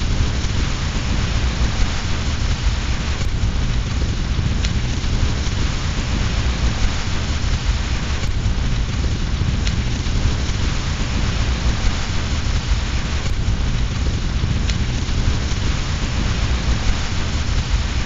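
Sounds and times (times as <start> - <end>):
deep low rumble: 0.0 - 18.0
fire crackling: 0.0 - 18.0
steady rain: 0.0 - 18.0.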